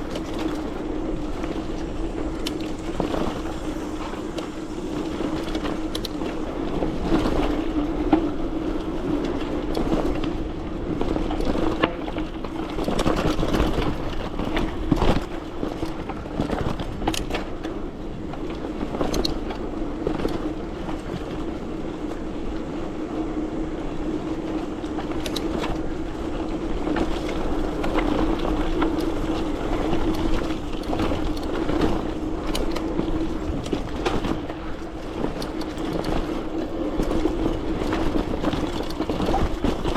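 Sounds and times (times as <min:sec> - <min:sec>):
bike rattling over bumps: 0:00.0 - 0:39.9
bike rolling on trail: 0:00.0 - 0:39.9.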